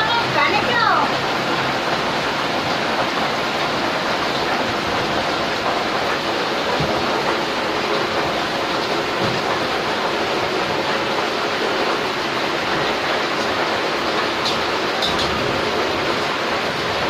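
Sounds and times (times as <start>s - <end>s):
water boiling hard in pot: 0.0s - 17.0s.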